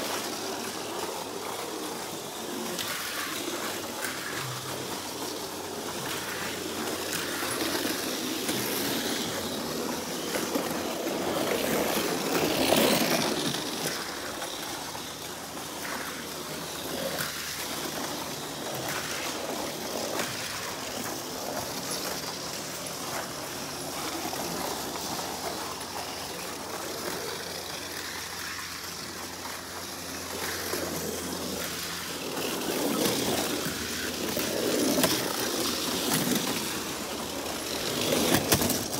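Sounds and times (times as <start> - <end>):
toy cars rolling clatter on track: 0.0 - 38.9.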